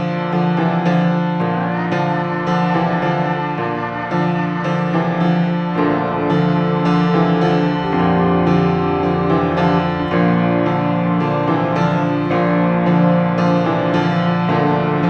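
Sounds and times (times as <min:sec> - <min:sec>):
sustained keyboard chords: 0:01.4 - 0:15.0.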